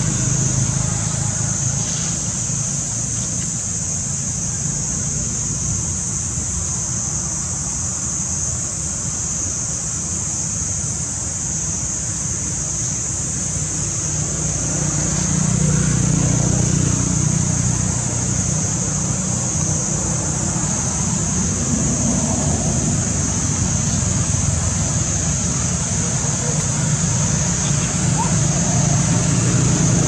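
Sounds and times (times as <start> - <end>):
high-pitched buzzing hiss: 0.0 - 30.0.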